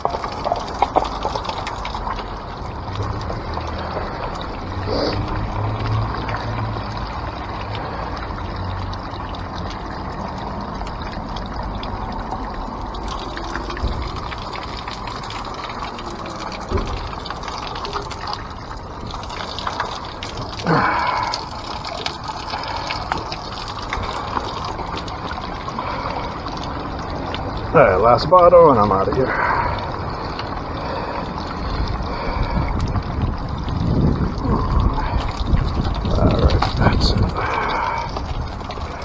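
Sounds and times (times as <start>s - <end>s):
water pouring through funnel into bottle: 0.0s - 39.0s.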